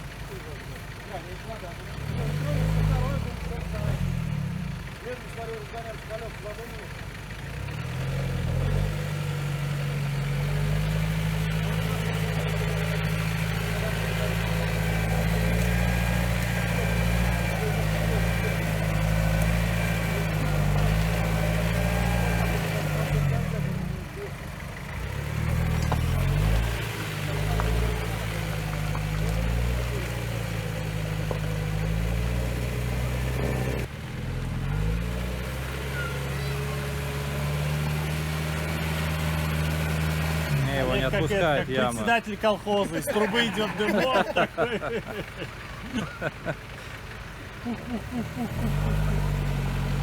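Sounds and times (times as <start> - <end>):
vehicle engine droning under load: 0.0 - 50.0.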